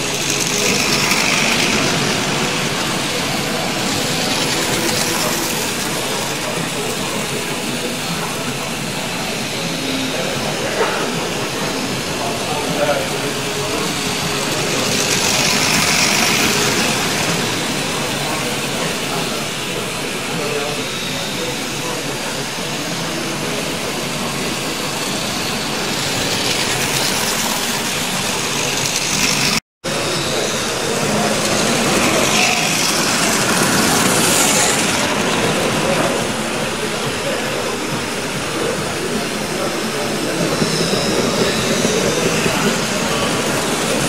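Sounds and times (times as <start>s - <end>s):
model train whirring rattle: 0.0s - 44.0s.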